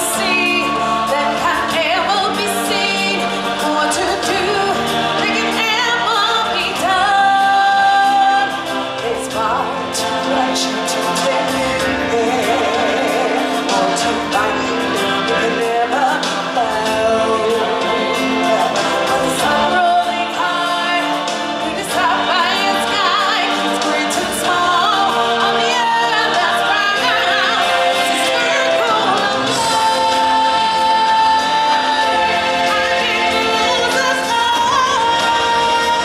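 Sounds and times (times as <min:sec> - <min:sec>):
group singing with instruments: 0:00.0 - 0:36.0.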